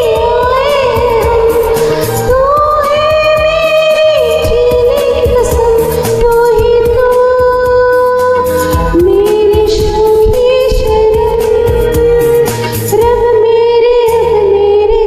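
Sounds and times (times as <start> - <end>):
film song backing track: 0.0 - 13.8
woman singing: 0.0 - 15.0.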